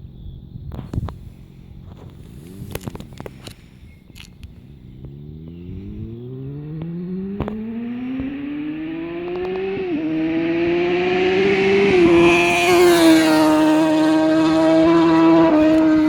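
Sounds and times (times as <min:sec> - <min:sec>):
motorcycle engine accelerating: 0:00.8 - 0:16.0.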